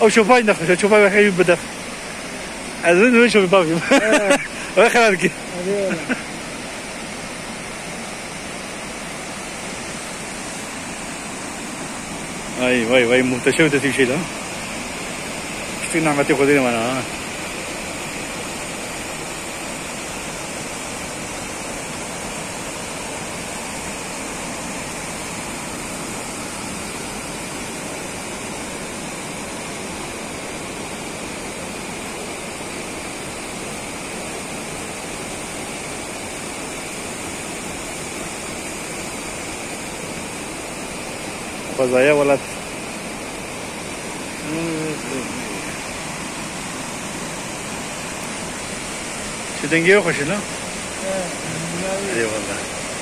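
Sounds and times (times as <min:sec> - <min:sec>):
waterfall and stream rushing: 0:00.0 - 0:53.0.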